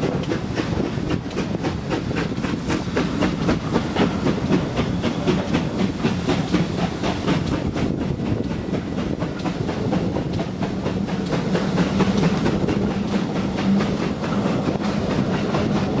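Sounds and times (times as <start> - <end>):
coaches rumbling on rails: 0.0 - 16.0
steam locomotive beats: 0.0 - 16.0.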